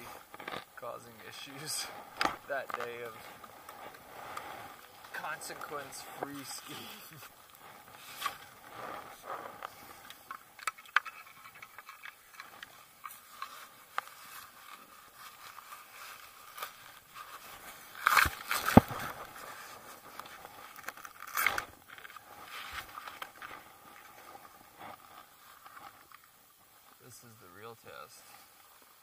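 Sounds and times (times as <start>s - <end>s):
ski skins scraping and rustling: 0.0s - 29.0s.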